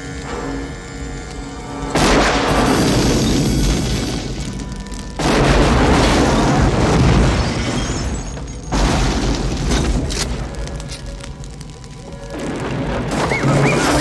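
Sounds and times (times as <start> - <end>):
film score: 0.0 - 14.0
explosion blasts: 1.9 - 14.0.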